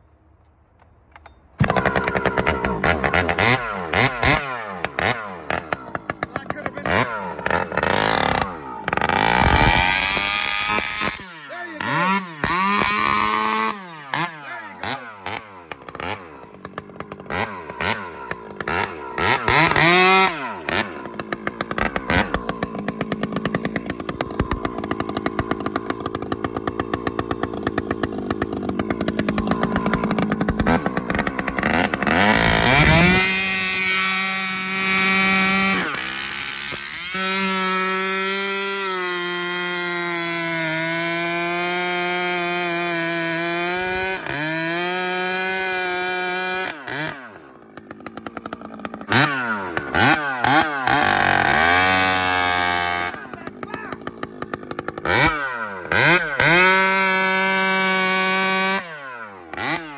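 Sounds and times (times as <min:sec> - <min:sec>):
chainsaw cutting into log: 0:01.6 - 0:59.9
chainsaw revving: 0:01.6 - 0:59.9.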